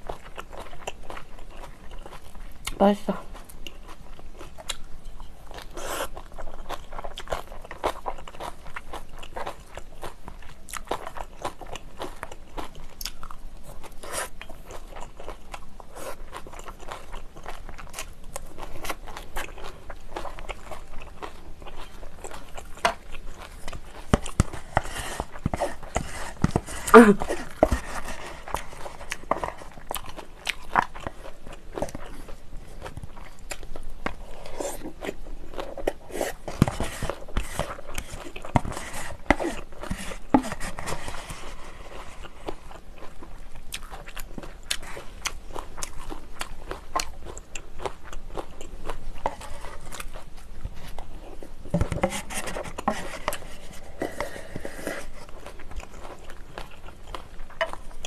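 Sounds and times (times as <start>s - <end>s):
wet chewing and crunching: 0.0s - 58.0s.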